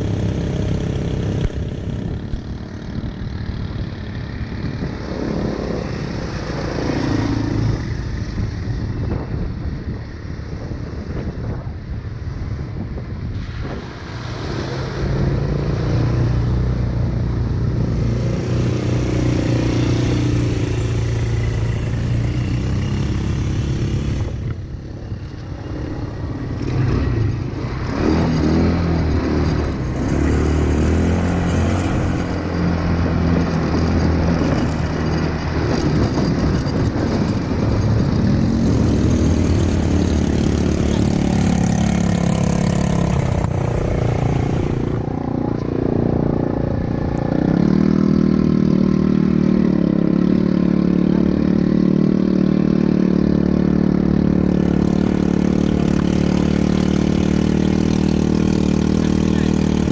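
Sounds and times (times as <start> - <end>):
atv engine revving: 0.0 - 8.9, 14.2 - 59.9.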